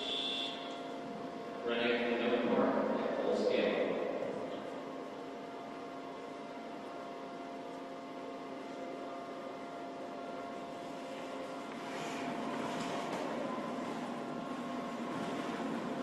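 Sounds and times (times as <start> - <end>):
shake table machinery humming: 0.0 - 16.0
steady machine tones: 0.0 - 16.0.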